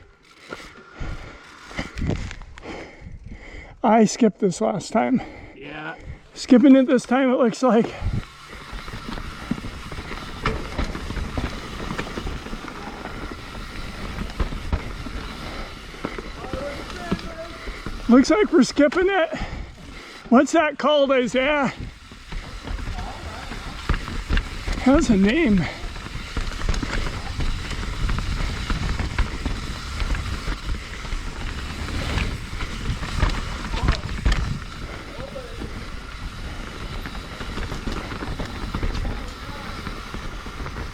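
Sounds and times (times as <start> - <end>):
bike knocks and rattles: 0.0 - 2.9, 7.0 - 20.3, 21.3 - 40.9
bike tyres rumbling on dirt: 0.0 - 3.8, 4.6 - 40.9.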